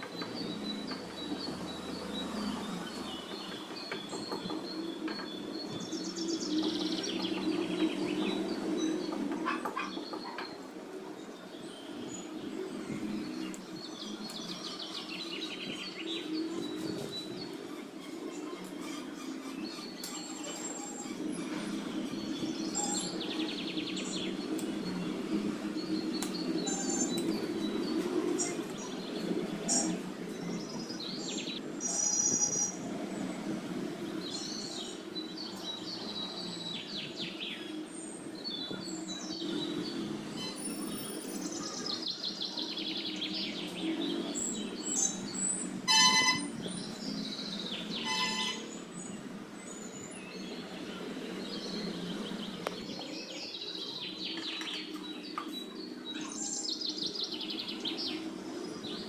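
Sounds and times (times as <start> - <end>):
birds chirping and calling: 0.0 - 33.4, 34.1 - 59.0.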